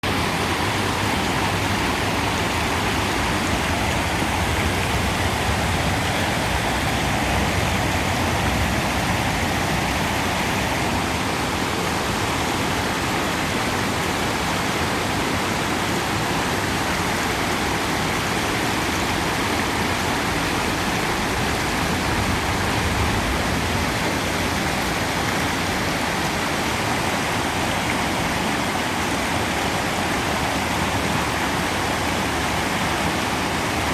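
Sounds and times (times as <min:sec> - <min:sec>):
river water rushing over rocks: 0:00.0 - 0:33.9.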